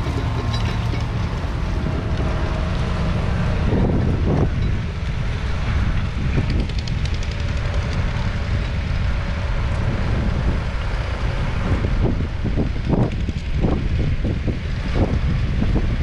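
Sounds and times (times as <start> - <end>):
diesel engine rumbling: 0.0 - 16.0
wind buffeting microphone: 0.0 - 16.0.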